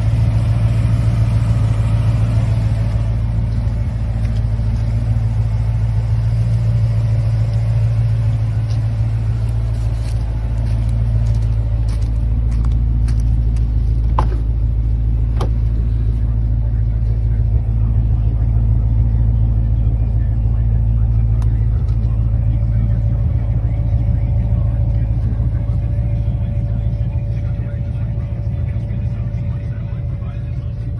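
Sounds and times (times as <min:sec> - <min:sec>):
car engine deep rumble: 0:00.0 - 0:30.9.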